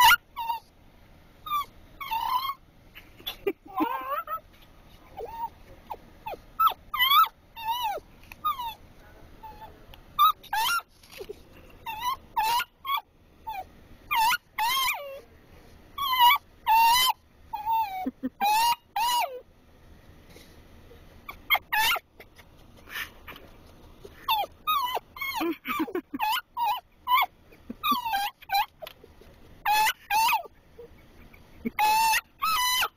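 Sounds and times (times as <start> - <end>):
dog whining and yipping: 0.0 - 0.7, 1.4 - 2.6, 3.2 - 4.4, 5.1 - 8.8, 9.4 - 15.2, 16.0 - 19.4, 21.3 - 32.9.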